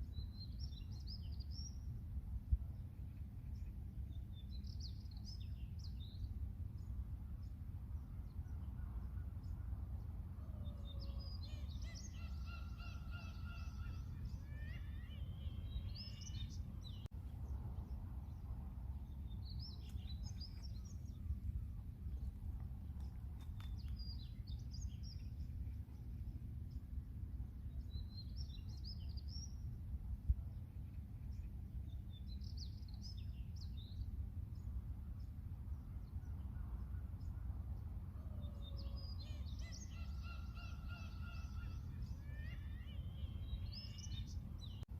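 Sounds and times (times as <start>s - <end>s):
steady low rumble: 0.0s - 10.7s, 11.3s - 38.6s.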